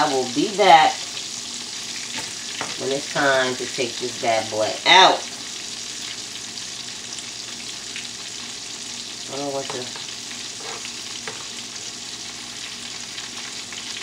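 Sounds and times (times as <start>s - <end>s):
frying sizzle with crackles: 0.0s - 14.0s.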